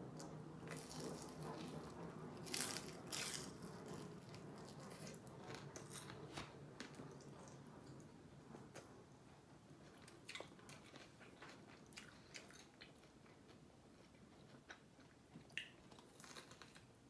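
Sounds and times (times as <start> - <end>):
crunchy chewing of fried chicken: 0.2 - 8.0, 9.8 - 17.0.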